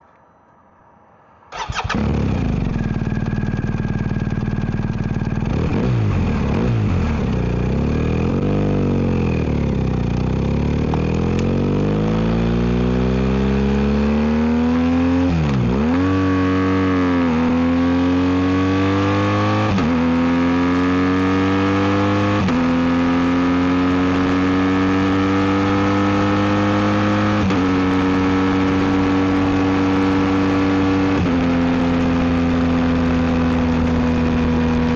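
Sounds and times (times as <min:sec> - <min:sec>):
motorcycle engine accelerating: 0:01.5 - 0:34.9.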